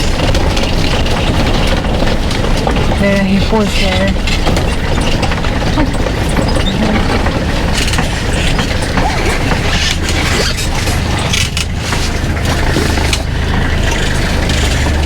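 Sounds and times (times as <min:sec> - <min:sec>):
knocks and rattles: 0:00.0 - 0:15.0
vehicle engine humming: 0:00.0 - 0:15.0.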